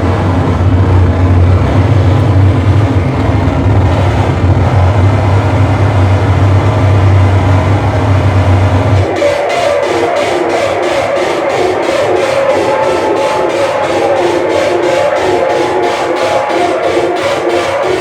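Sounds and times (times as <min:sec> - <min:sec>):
distorted electronic noise: 0:00.0 - 0:18.0
heavy low drone: 0:00.0 - 0:18.0.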